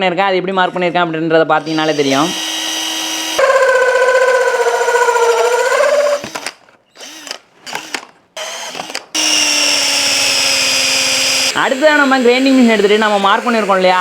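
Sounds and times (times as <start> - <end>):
electric power tool whining: 1.6 - 14.0.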